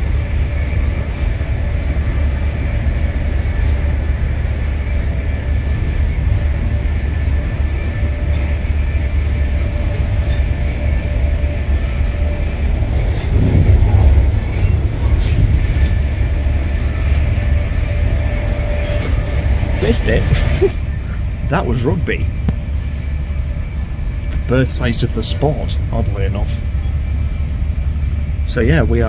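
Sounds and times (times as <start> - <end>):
faint whining tones: 0.0 - 29.0
train wheels rumbling on rail: 0.0 - 29.0.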